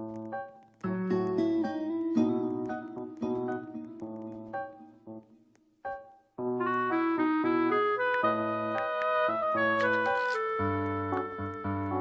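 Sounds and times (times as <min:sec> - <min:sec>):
instrumental melody of plucked notes: 0:00.8 - 0:05.3, 0:05.9 - 0:12.0.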